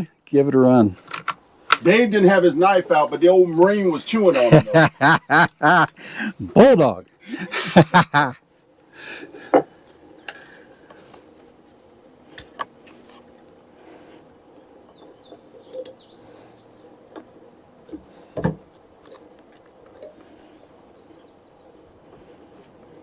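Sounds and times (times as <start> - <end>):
birds chirping: 1.0 - 11.5, 13.8 - 23.0.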